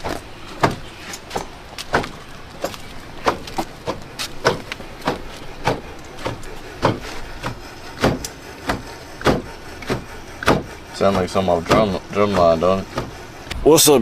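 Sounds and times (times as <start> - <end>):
engine knocking: 0.0 - 13.9.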